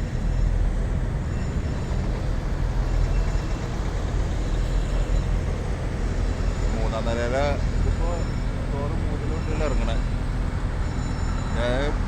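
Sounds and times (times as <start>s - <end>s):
vehicles driving off a ferry: 0.0s - 12.0s.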